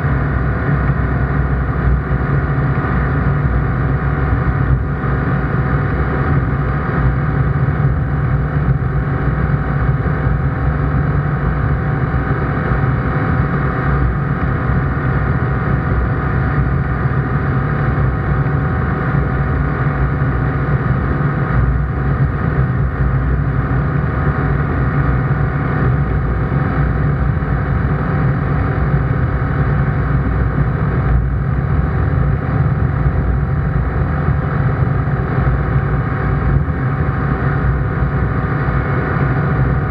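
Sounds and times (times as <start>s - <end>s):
light aircraft engine and propeller droning: 0.0s - 39.9s.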